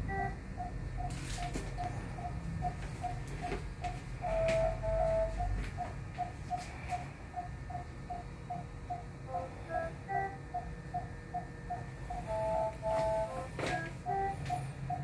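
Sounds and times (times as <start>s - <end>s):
monitor long tones: 0.0s - 15.0s
patient monitor pulse beeps: 0.0s - 15.0s.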